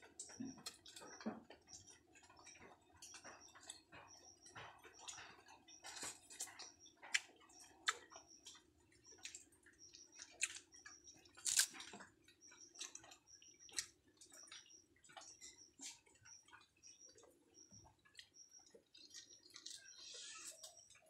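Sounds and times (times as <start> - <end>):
wet sticky chewing: 0.2 - 21.0.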